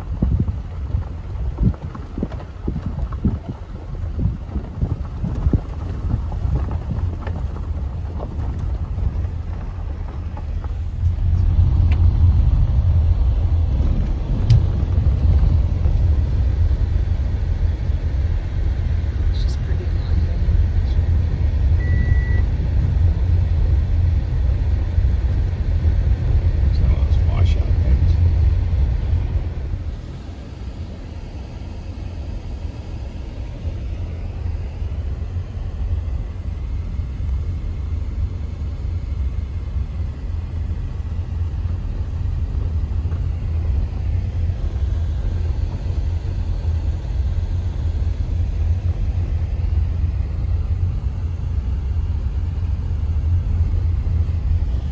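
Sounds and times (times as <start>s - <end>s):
car driving on dirt road: 0.0s - 54.9s.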